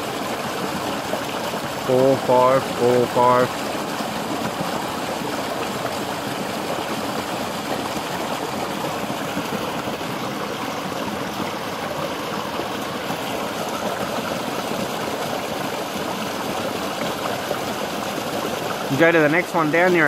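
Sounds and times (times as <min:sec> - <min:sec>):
water pouring onto water wheel: 0:00.0 - 0:20.0.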